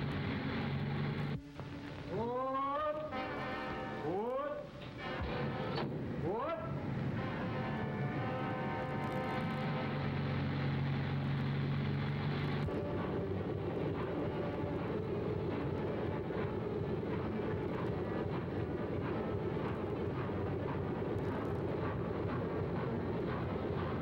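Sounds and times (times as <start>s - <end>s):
steam locomotive running: 0.0s - 24.0s.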